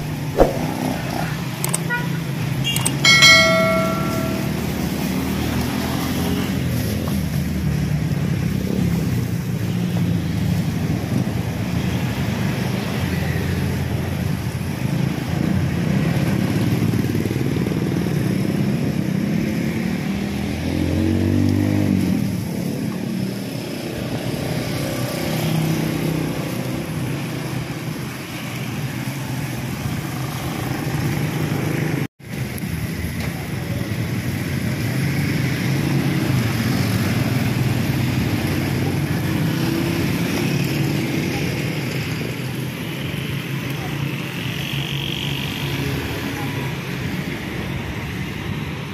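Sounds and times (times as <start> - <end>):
motor vehicle engines: 0.0 - 3.7, 4.5 - 48.9.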